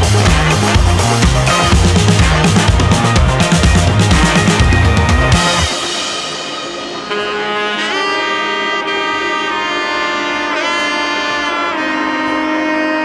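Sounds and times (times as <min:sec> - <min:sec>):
background music with drums: 0:00.0 - 0:11.0
held lead note bending: 0:00.0 - 0:13.0.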